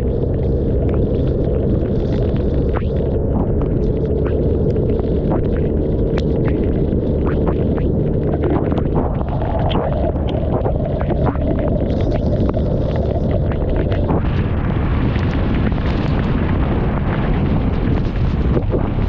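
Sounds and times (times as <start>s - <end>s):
rain ticking on microphone: 0.0s - 19.0s
scooter engine and road rumble: 0.0s - 19.0s
wind buffeting microphone: 0.0s - 19.0s.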